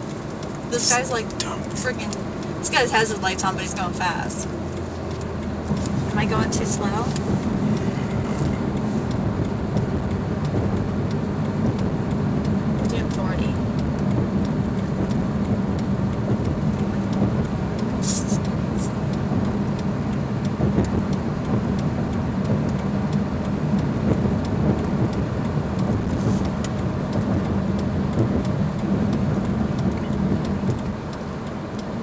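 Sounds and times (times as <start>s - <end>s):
car engine: 0.0s - 32.0s
road noise inside car: 0.0s - 32.0s
wind noise: 4.1s - 32.0s.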